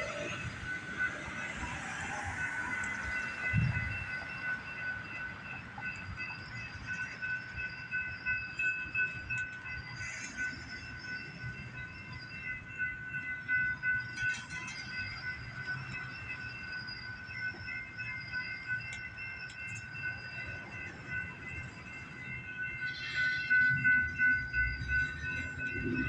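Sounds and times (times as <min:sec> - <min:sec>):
low train engine rumble: 0:00.0 - 0:26.0.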